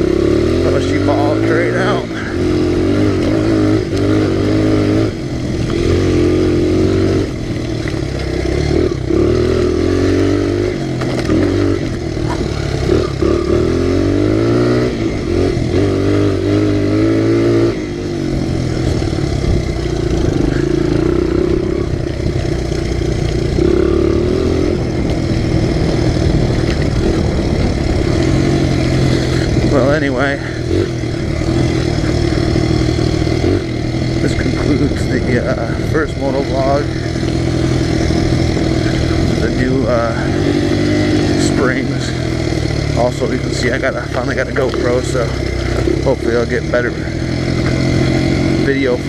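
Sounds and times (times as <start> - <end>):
motorbike engine revving: 0.0 - 49.0.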